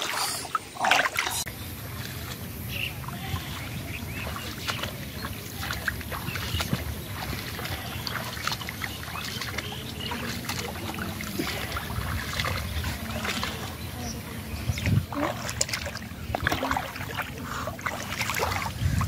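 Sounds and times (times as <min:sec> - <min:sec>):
bare feet wading through water: 0:00.0 - 0:19.0.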